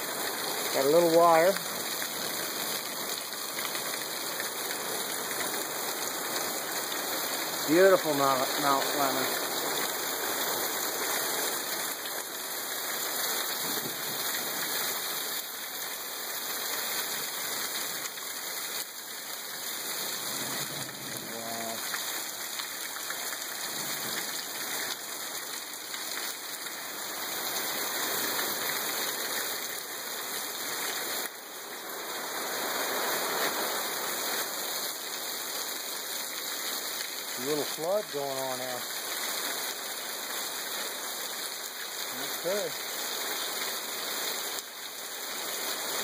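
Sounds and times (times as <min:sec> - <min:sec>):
heavy rain on trees and deck: 0:00.0 - 0:46.0.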